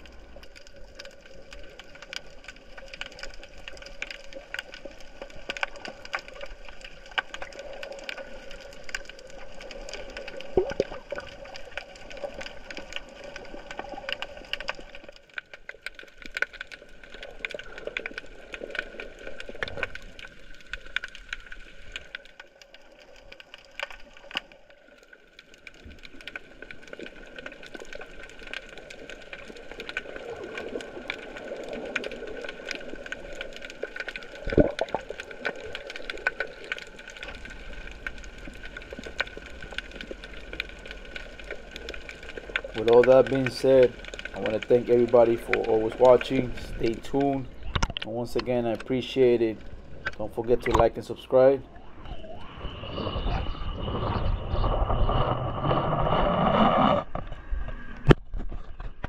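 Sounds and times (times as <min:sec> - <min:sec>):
steady underwater hum: 0:00.0 - 0:59.0
underwater crackling clicks: 0:00.0 - 0:59.0.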